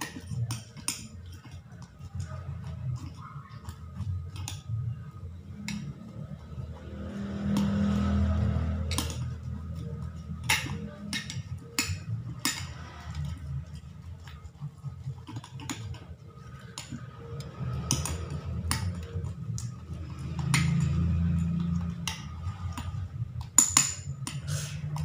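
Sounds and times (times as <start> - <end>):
spoon scraping slime: 0.0 - 25.0.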